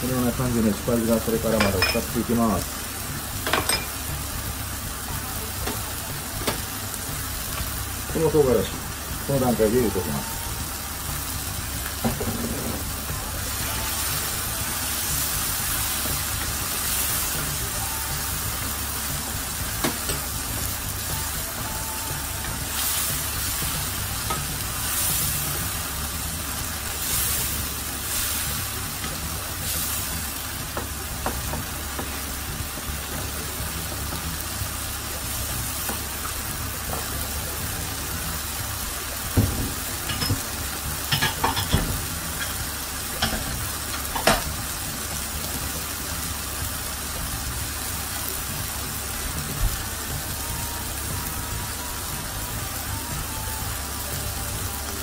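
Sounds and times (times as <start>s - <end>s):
curry sizzling and bubbling in pan: 0.0s - 55.0s.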